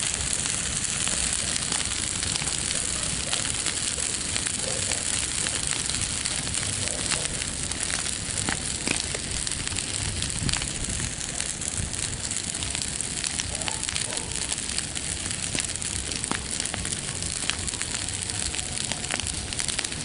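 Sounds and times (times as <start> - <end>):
bonfire rushing hiss: 0.0 - 20.0
fire crackles and pops: 0.0 - 20.0.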